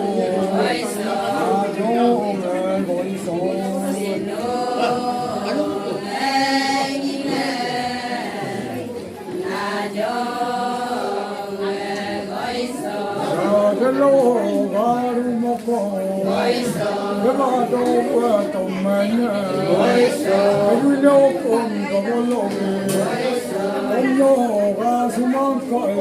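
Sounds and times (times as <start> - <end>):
voices chanting together: 0.0 - 26.0.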